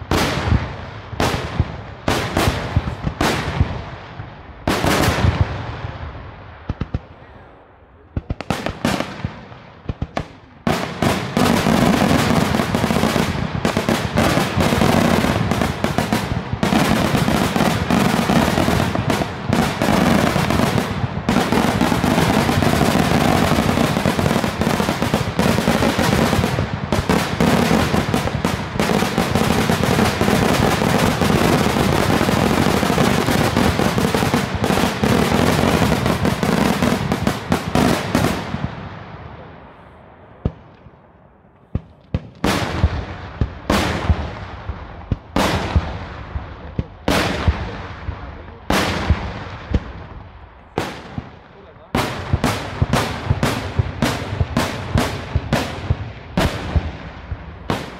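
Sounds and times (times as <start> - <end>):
firework bangs and crackling: 0.0 - 7.4, 8.0 - 57.9.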